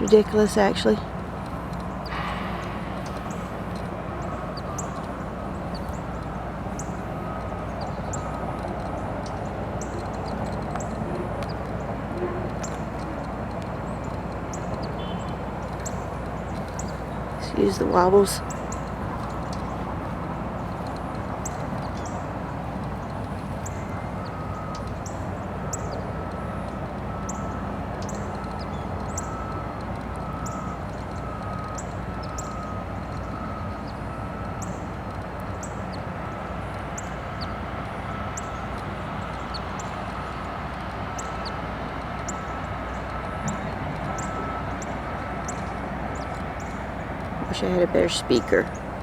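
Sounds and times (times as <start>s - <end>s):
distant heavy machinery rumble: 0.0s - 49.0s.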